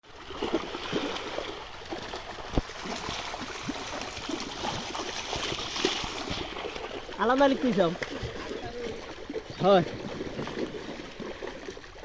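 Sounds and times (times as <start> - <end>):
pond water splashing: 0.0 - 12.0.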